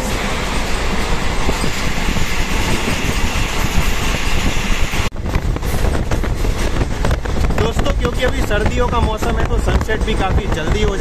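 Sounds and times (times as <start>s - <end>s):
train rolling noise from on board: 0.0s - 11.0s.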